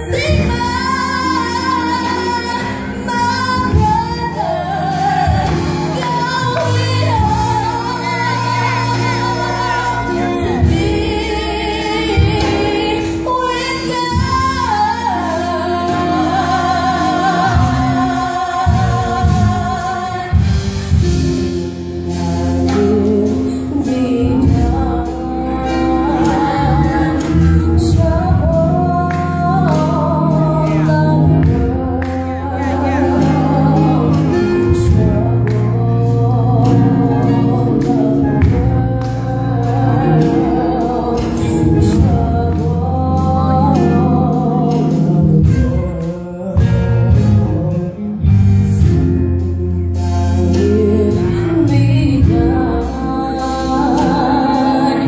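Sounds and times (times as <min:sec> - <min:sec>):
low accompaniment notes: 0:00.0 - 0:55.0
woman singing into microphone: 0:00.0 - 0:55.0.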